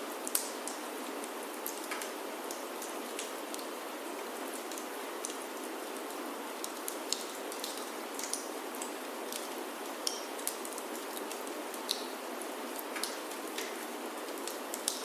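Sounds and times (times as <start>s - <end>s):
rain on a wooden roof: 0.0s - 15.0s
wood fire crackling: 0.2s - 15.0s.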